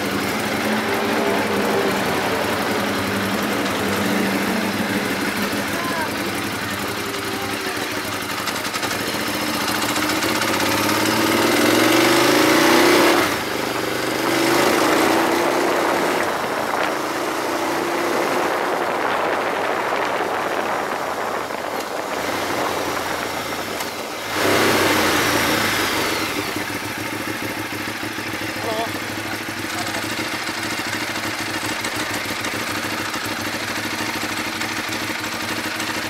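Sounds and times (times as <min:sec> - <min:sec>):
motorcycle engine accelerating hard: 0:00.0 - 0:36.0.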